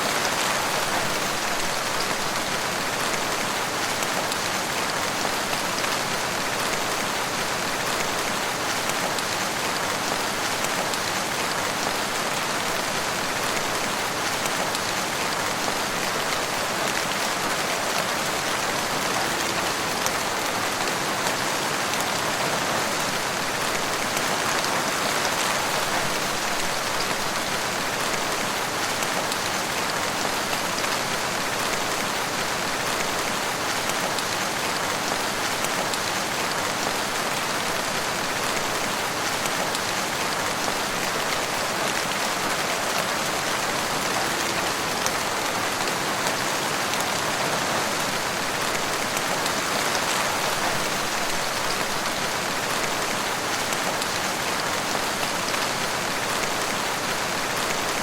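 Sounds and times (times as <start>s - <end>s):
raindrops ticking on leaves: 0.0s - 58.0s
steady rain hiss: 0.0s - 58.0s.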